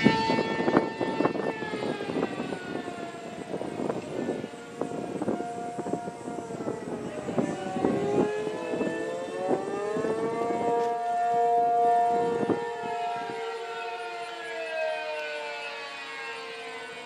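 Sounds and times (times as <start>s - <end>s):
rotating warning siren: 0.0s - 17.0s.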